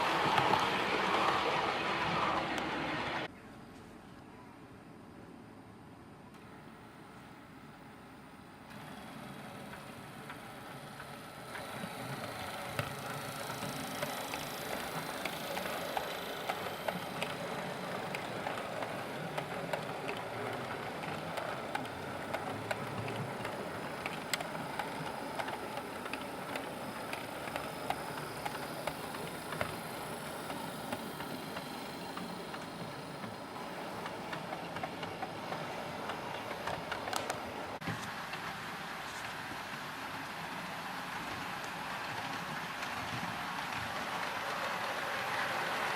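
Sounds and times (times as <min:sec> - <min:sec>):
wheels clicking on rails: 0:00.0 - 0:03.3, 0:08.7 - 0:45.9
model train motor whir: 0:08.7 - 0:45.9.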